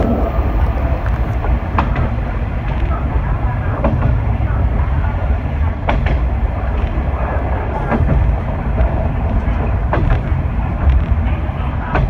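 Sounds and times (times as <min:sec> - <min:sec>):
railcar engine rumble: 0:00.0 - 0:12.0
wheels clicking over rail joints: 0:00.0 - 0:12.0.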